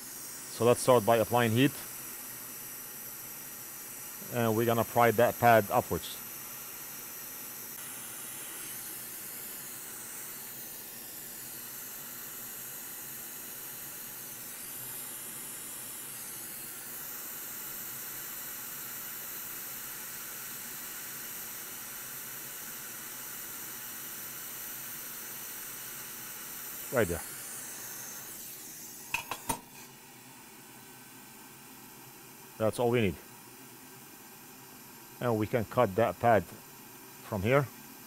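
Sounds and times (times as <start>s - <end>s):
hot air blower hissing: 0.0s - 38.0s.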